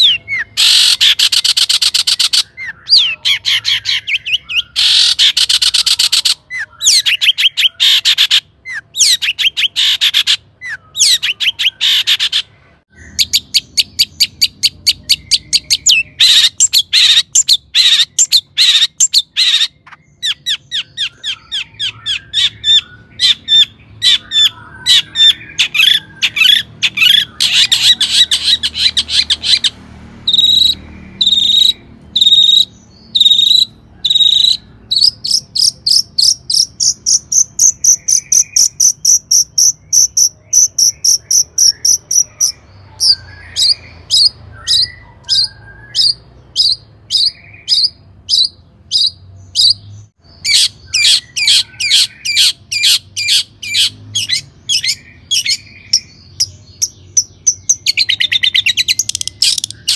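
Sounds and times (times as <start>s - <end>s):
shrike chattering song: 0.0s - 59.9s.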